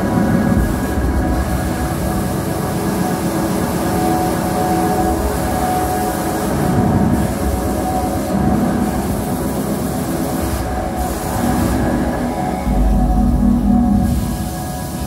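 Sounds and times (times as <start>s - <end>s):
dense noisy drone: 0.0s - 15.0s.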